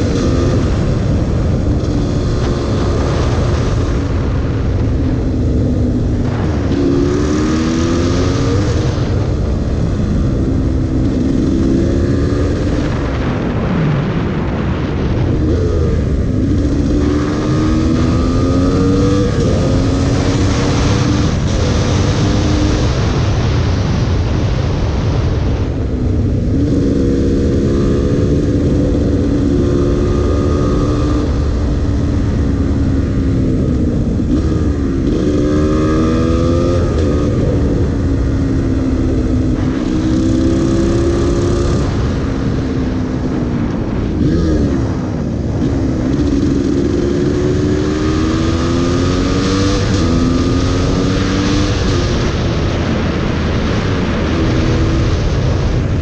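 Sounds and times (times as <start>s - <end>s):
motorcycle engine revving: 0.0s - 56.0s
wind noise on microphone: 0.0s - 56.0s.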